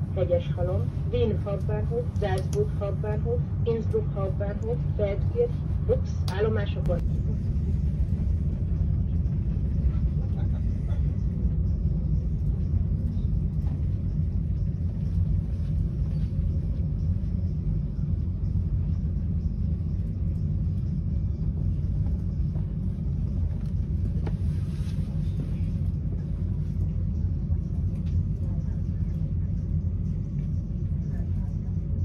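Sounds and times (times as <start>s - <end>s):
train rumbling on rails: 0.0s - 32.0s.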